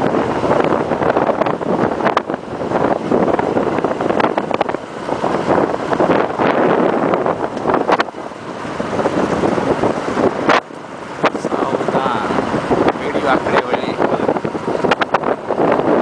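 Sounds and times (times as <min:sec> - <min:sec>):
moving vehicle rushing noise: 0:00.0 - 0:16.0
wind buffeting microphone: 0:00.0 - 0:16.0.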